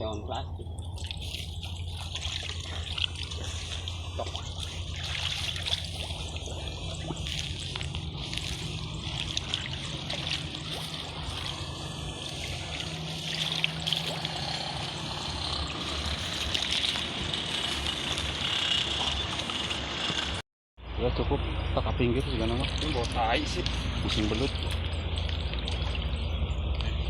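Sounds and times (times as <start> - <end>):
shallow water trickling: 0.0 - 19.6, 22.1 - 27.0
steady low hum: 0.0 - 27.0.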